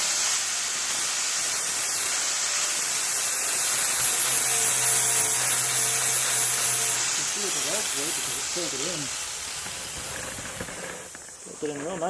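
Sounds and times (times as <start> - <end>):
angle grinder grinding steel: 0.0 - 12.0.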